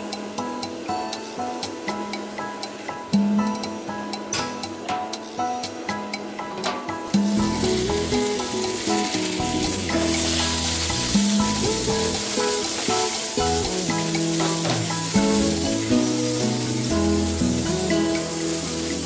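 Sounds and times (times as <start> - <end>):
background music: 0.0 - 19.0
oil sizzling in a wok: 0.0 - 19.0.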